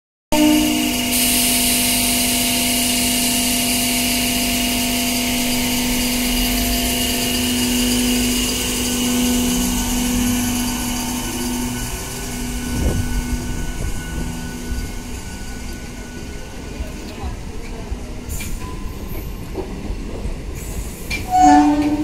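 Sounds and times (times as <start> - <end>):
electric train motor whine: 0.4 - 17.5, 21.2 - 22.0.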